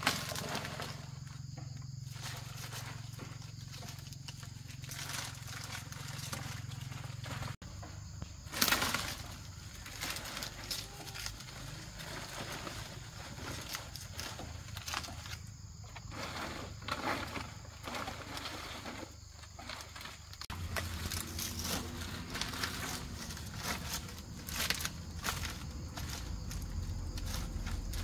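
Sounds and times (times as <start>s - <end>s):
palm fronds rustling: 0.0s - 28.0s.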